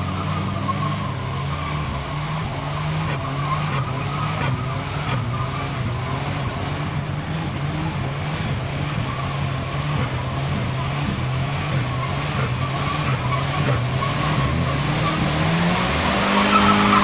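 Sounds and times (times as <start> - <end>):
car engine at high revs: 0.0 - 17.0
tyres squealing on asphalt: 0.0 - 17.0.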